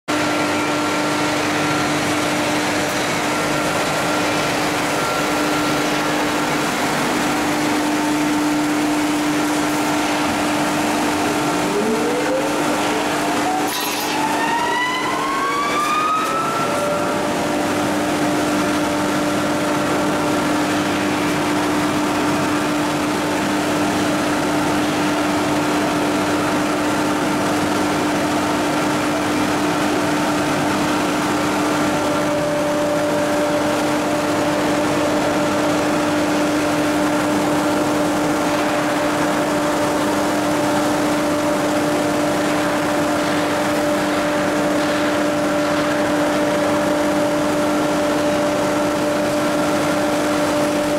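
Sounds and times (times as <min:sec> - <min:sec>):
machinery motor hum and whine: 0:00.1 - 0:50.9.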